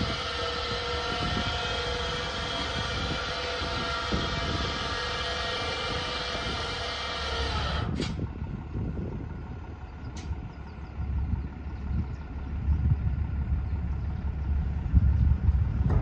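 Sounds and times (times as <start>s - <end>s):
low rumble: 0.0s - 16.0s
truck mechanical hum with whine: 0.0s - 16.0s.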